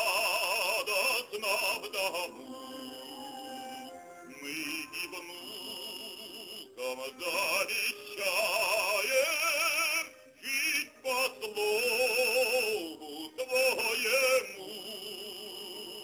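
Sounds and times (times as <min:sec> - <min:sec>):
musical accompaniment: 0:00.0 - 0:16.0
person singing with vibrato: 0:00.0 - 0:16.0.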